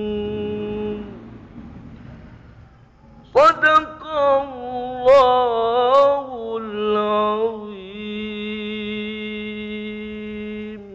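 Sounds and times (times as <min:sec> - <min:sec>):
man chanting melodic recitation: 0:00.0 - 0:01.5, 0:03.2 - 0:10.9.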